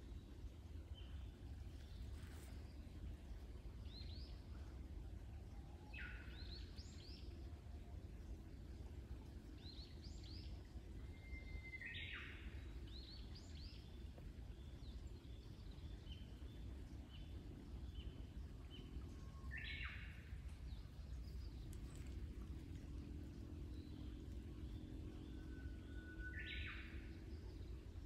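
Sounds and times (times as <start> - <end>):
low outdoor rumble: 0.0 - 28.0
songbirds chirping: 0.0 - 28.0.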